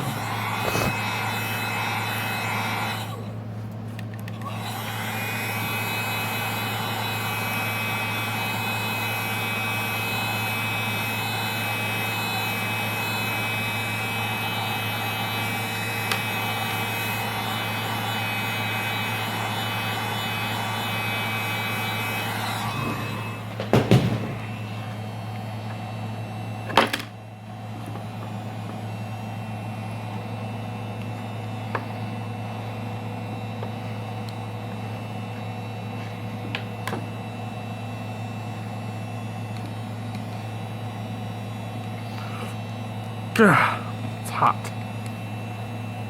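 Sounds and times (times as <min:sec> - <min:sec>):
heat gun fan whining: 0:00.0 - 0:46.0.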